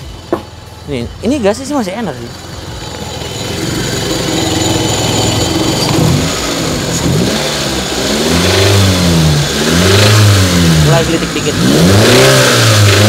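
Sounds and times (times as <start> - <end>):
car engine idling and revving: 0.0 - 13.0
engine pinging: 0.0 - 13.0.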